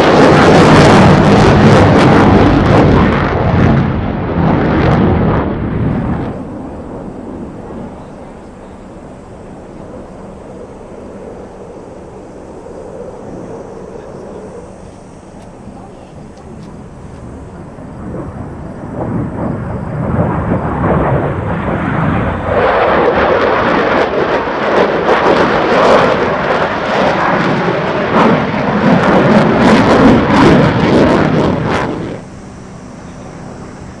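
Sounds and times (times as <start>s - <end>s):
jet flying past: 0.0s - 34.0s.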